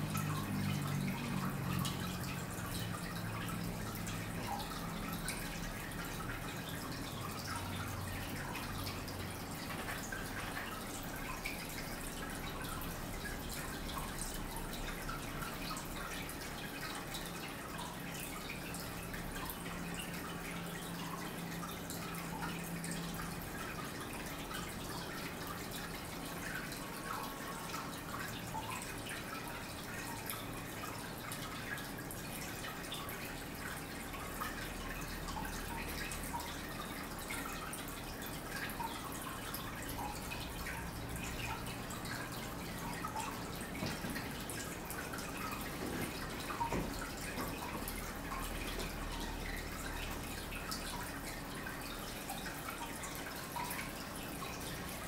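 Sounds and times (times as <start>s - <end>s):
small water drips: 0.0s - 55.0s
water trickling: 0.0s - 55.0s.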